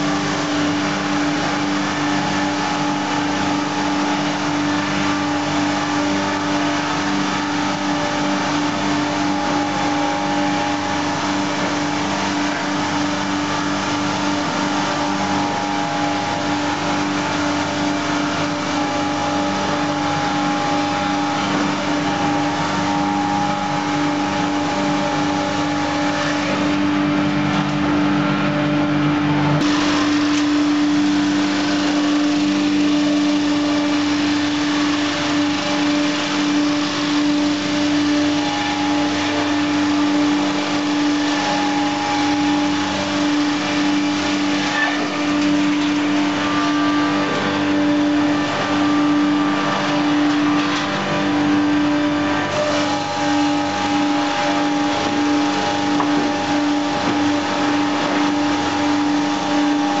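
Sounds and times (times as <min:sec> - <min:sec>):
sawmill machine hum: 0:00.0 - 1:00.0.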